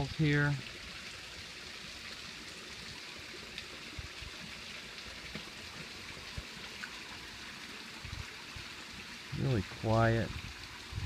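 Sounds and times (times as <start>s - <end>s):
waterfall splashing into pond: 0.0s - 11.0s.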